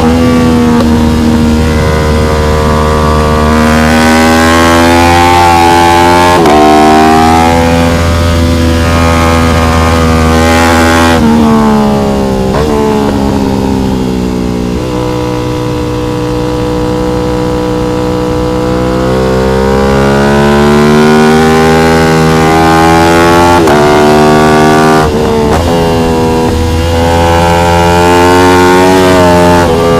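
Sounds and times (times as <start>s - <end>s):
motorcycle engine revving and shifting: 0.0s - 29.9s.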